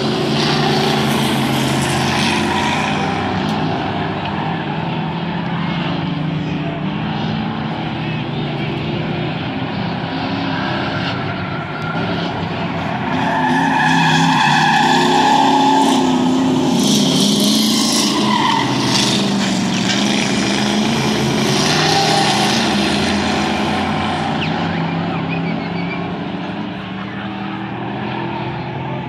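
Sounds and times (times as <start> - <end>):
race car engines roaring past: 0.0 - 29.0
tires squealing: 0.0 - 29.0.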